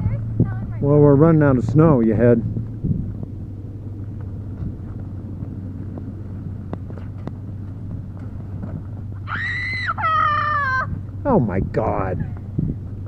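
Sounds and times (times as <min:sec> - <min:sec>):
wind on microphone: 0:00.0 - 0:09.2, 0:10.7 - 0:13.0
truck engine droning: 0:00.0 - 0:13.0.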